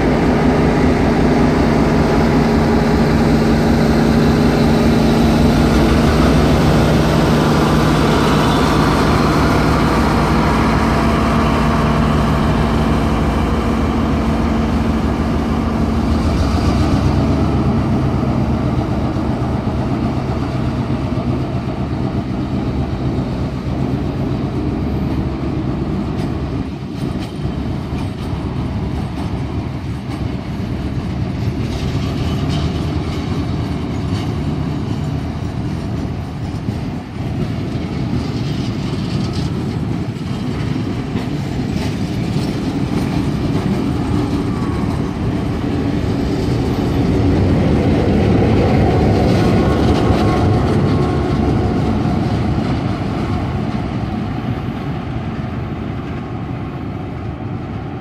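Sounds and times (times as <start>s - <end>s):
diesel locomotive engine running: 0.0s - 58.0s
train wheels running over rails: 0.0s - 58.0s.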